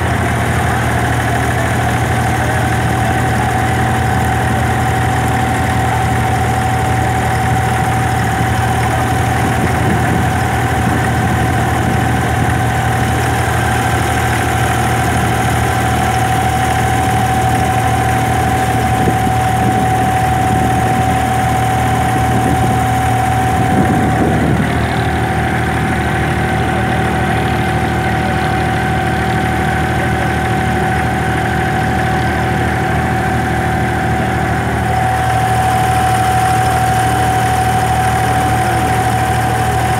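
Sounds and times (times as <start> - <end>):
boat diesel engine running: 0.0 - 39.9.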